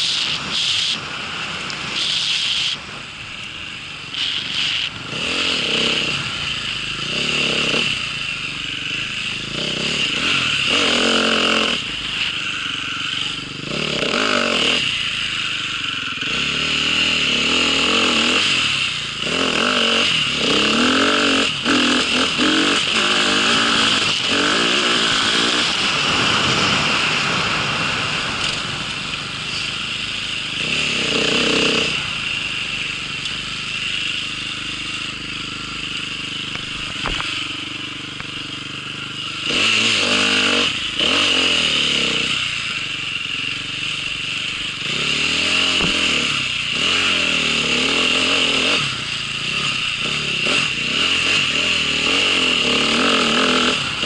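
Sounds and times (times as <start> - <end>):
small engine revving: 0.0 - 54.0.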